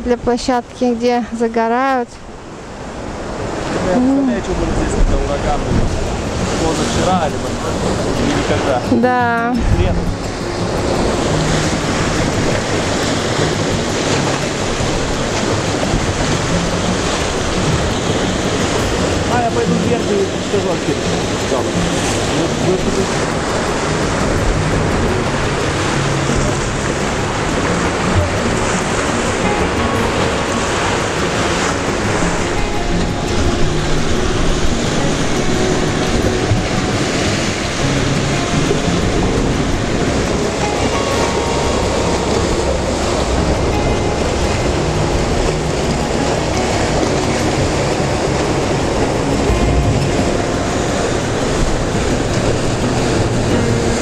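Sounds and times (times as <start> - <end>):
sea surf splashing on rocks: 0.0 - 54.0
wind rumbling on microphone: 0.0 - 54.0.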